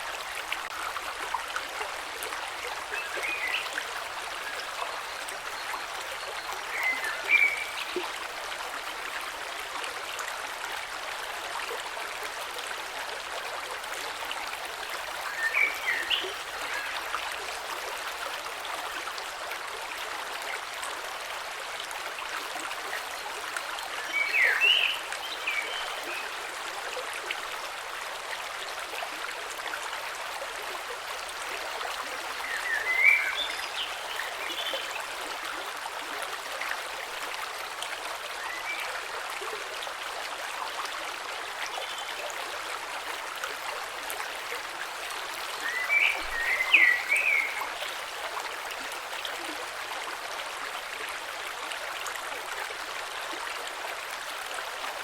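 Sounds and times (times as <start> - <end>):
creek flowing over stones: 0.0 - 55.0.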